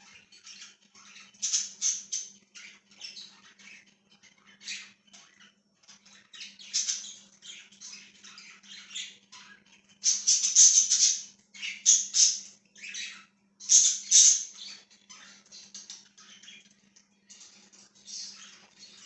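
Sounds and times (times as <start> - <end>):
budgerigars chattering and chirping: 0.0 - 19.0.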